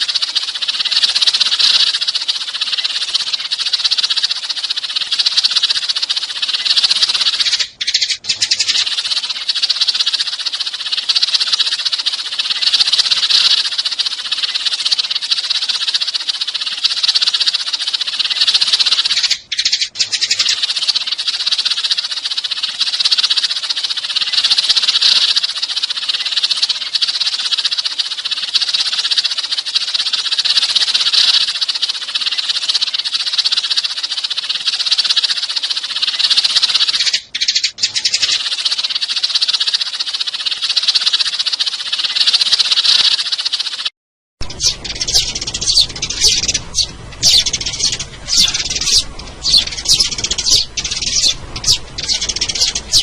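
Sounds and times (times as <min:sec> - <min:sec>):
sparrows chirping and chattering: 0:00.0 - 0:53.0.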